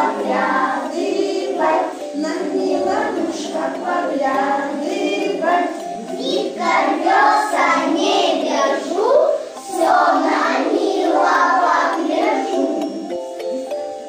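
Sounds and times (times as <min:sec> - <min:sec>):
children singing: 0:00.0 - 0:13.7
instrumental tune: 0:00.0 - 0:14.0.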